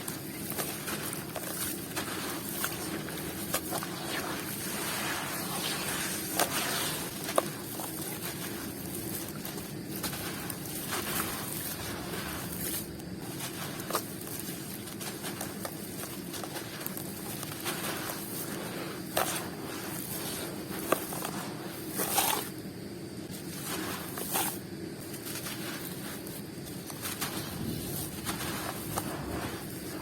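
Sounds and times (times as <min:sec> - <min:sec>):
dry food crunching: 0:00.0 - 0:22.6, 0:23.3 - 0:30.0
gritty hiss: 0:00.0 - 0:30.0.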